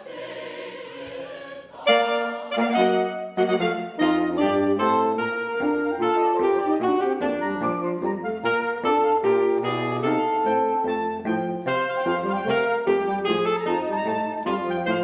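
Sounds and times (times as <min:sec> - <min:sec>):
saxophone quartet playing: 0:01.8 - 0:15.0.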